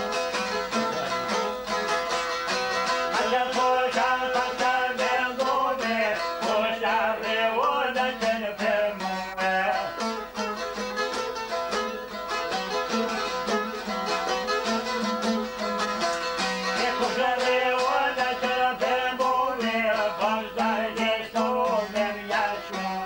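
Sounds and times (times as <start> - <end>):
two lutes playing folk tune: 0.0 - 23.0.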